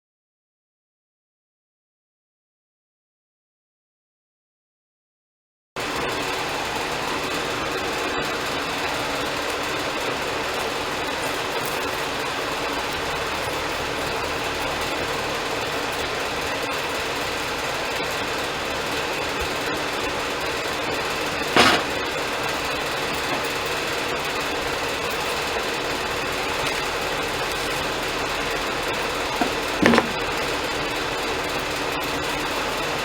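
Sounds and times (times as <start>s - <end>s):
sawmill engine drone: 5.8s - 33.0s.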